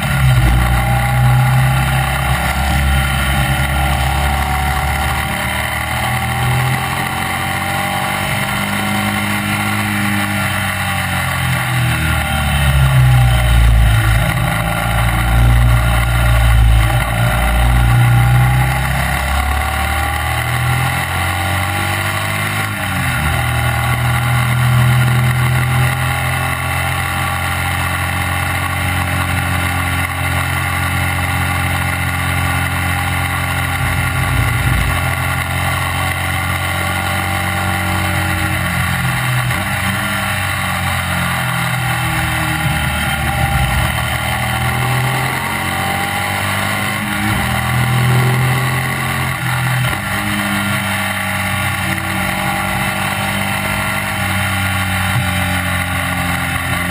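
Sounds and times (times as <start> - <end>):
racing sidecar engine revving: 0.0 - 56.9.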